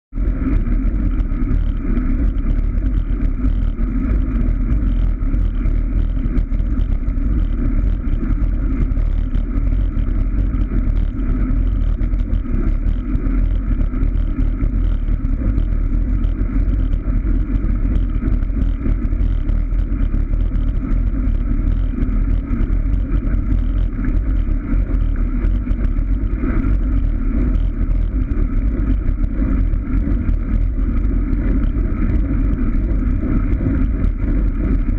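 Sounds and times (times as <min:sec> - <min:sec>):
wind and road noise on microphone: 0:00.0 - 0:34.9.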